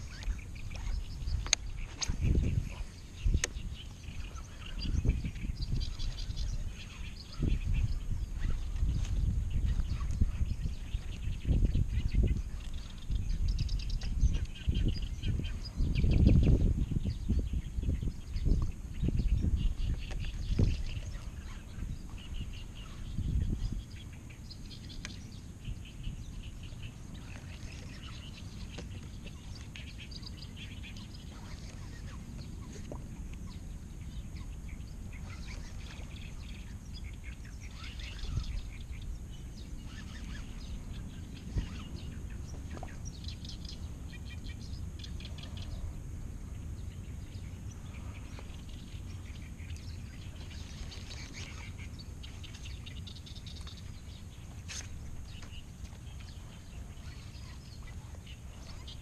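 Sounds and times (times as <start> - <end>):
birds chirping and calling: 0.0 - 59.0
steady low rumble: 0.0 - 59.0.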